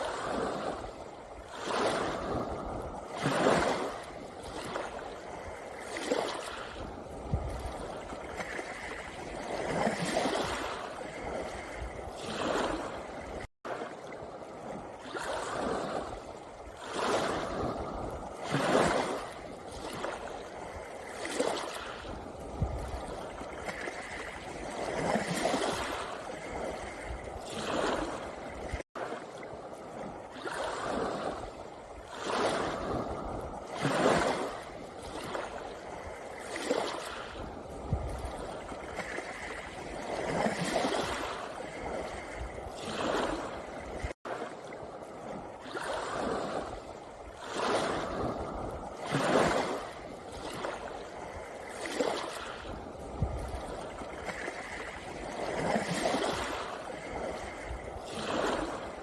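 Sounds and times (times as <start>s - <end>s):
waves washing over pebbles: 0.0s - 59.0s.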